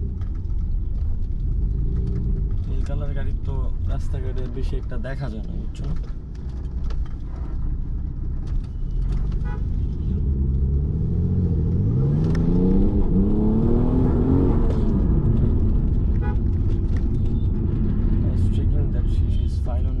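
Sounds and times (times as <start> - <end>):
car engine: 0.0 - 20.0
road rumble: 0.0 - 20.0.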